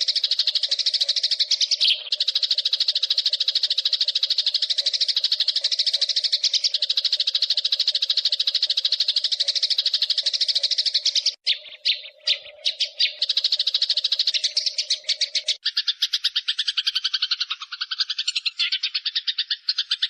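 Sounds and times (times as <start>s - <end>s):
sparrows chattering: 0.0s - 20.0s.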